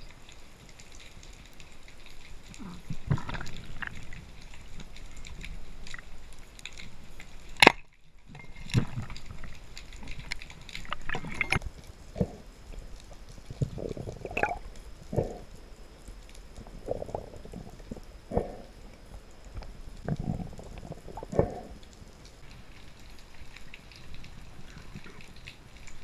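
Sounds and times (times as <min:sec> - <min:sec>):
muffled underwater sloshing: 0:02.1 - 0:26.0.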